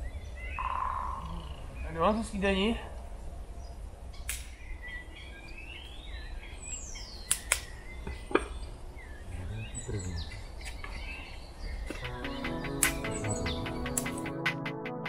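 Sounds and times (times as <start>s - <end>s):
birds chirping and whistling: 0.0s - 2.3s, 3.5s - 14.5s.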